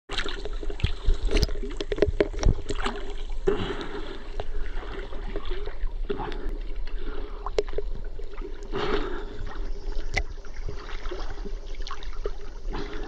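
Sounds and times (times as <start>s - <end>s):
water splashing and lapping: 0.1s - 13.0s.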